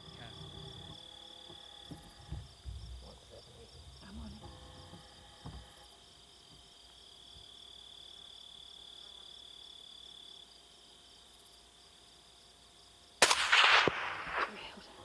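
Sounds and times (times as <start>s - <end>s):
insect high buzz: 0.0s - 15.0s.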